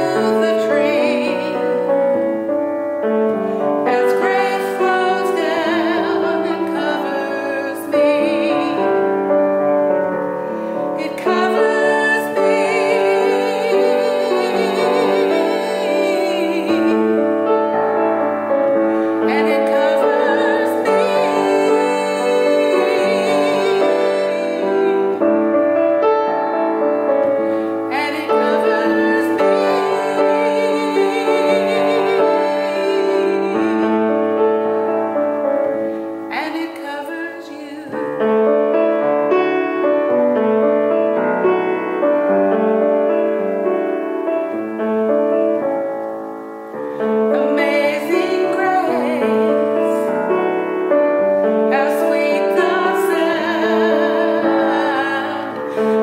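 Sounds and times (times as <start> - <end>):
woman singing a hymn: 0.0 - 40.2, 46.9 - 56.0
grand piano: 0.0 - 56.0.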